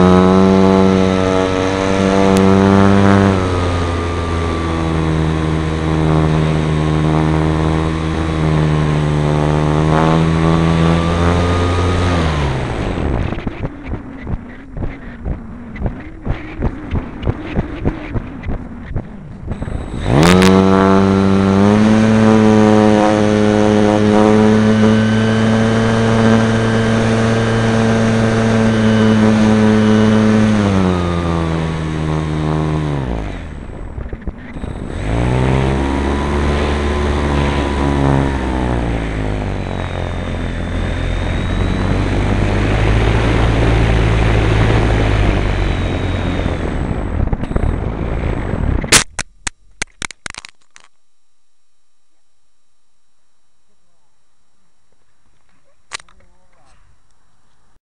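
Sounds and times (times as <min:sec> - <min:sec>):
model plane motor whine: 0:00.0 - 0:49.2.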